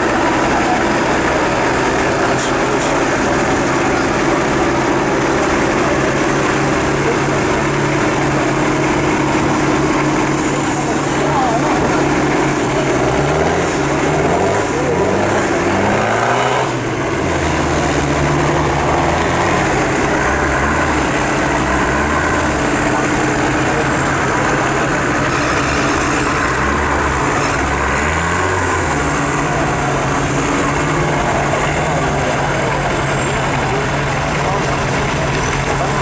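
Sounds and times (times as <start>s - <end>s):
truck engines revving: 0.0s - 36.0s.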